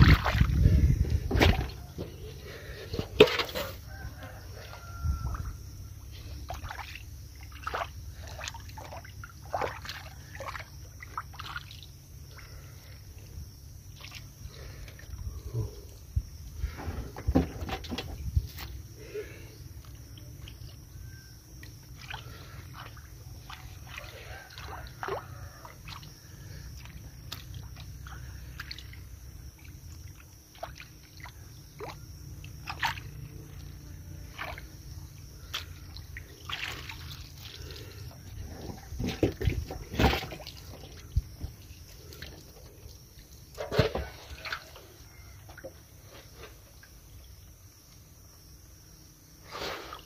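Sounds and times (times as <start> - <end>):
splashing in shallow water: 0.0 - 13.0, 13.8 - 15.4, 17.8 - 47.7.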